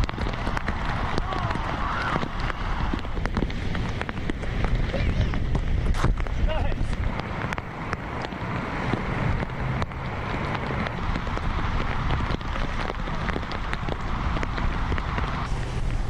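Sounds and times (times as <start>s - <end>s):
heavy rain splashing on water: 0.0s - 16.0s
low rumble: 0.0s - 16.0s.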